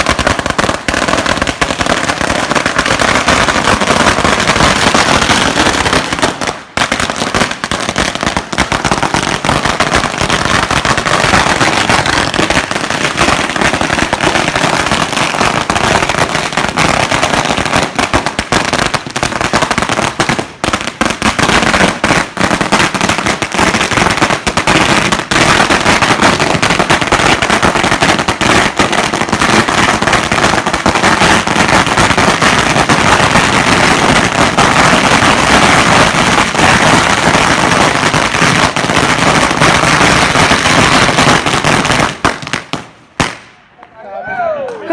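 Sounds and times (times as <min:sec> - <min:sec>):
firecracker string bangs and crackles: 0:00.0 - 0:43.8.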